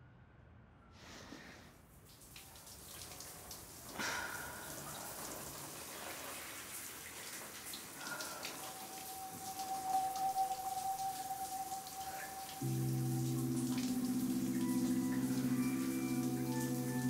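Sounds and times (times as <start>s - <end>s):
shower water running: 1.9s - 17.0s.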